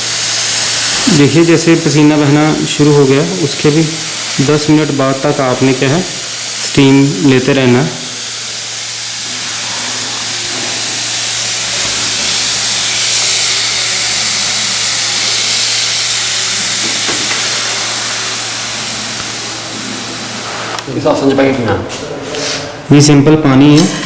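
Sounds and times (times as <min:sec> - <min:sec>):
steam hissing: 0:00.0 - 0:21.6.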